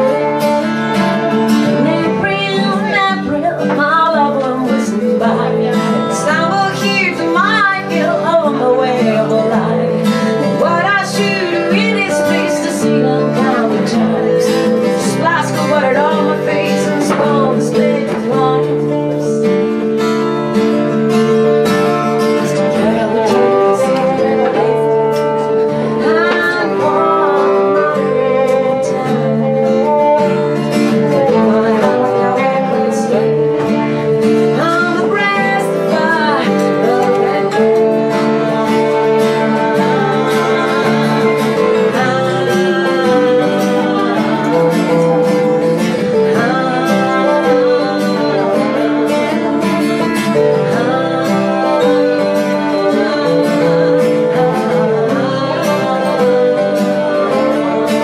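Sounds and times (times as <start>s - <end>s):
acoustic guitars playing: 0.0s - 58.0s
woman singing: 0.0s - 58.0s.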